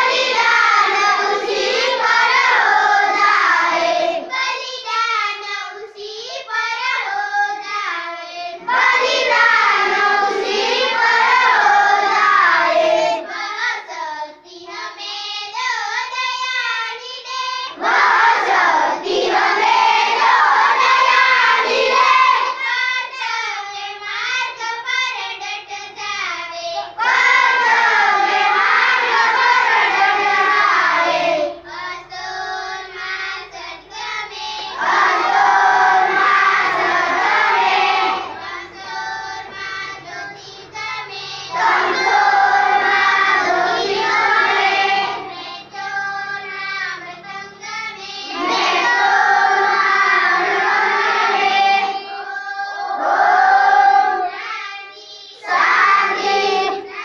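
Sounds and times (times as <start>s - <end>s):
children singing in unison: 0.0s - 57.0s.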